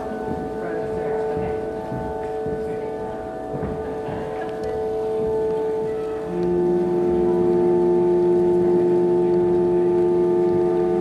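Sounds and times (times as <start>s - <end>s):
ambient droning chords: 0.0s - 11.0s.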